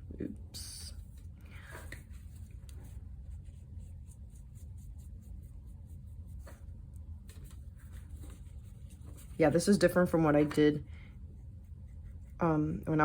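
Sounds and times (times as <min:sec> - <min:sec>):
low steady hum: 0:00.0 - 0:13.0
paintbrush scratching on paper: 0:02.0 - 0:13.0.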